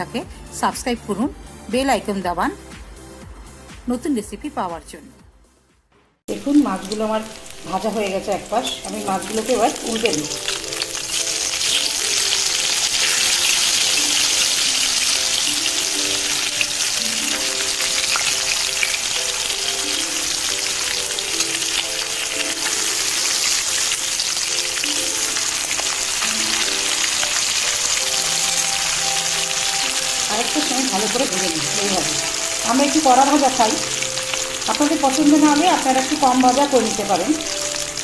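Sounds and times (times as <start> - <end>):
soft background melody: 0.0 - 38.0
fish frying in hot oil: 6.3 - 38.0.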